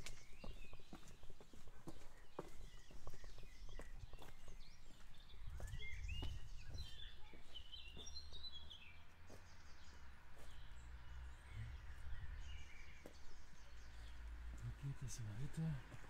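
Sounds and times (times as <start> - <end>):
songbird twittering: 0.0 - 16.0.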